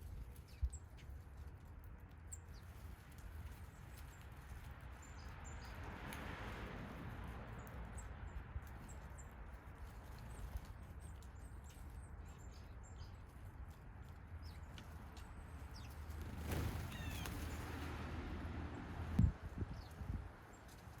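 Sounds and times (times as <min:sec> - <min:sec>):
small songbirds chirping: 0:00.0 - 0:06.2, 0:07.5 - 0:17.9, 0:19.2 - 0:21.0.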